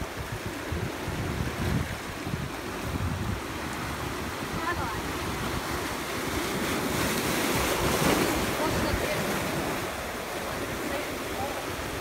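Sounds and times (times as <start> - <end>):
waves foaming over rocks: 0.0 - 12.0
wind buffeting microphone: 0.0 - 12.0.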